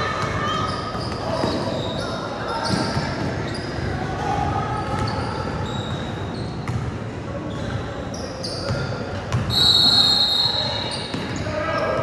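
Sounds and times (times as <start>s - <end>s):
sneaker squeaks: 0.0s - 4.0s, 4.8s - 12.0s.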